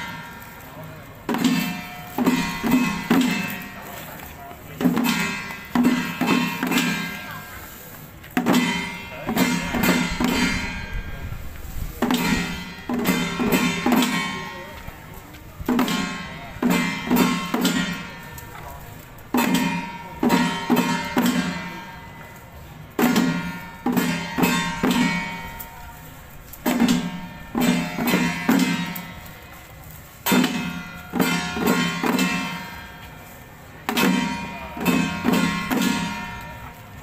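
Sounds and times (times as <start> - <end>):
drum and clanging metal strikes: 0.0 - 37.0.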